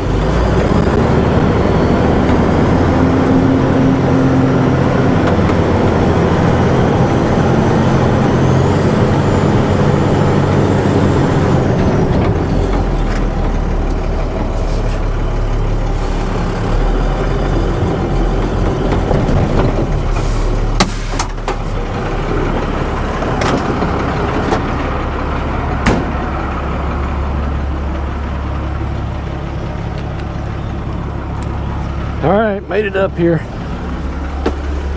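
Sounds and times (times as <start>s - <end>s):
heavy vehicle engine labouring: 0.0s - 34.9s.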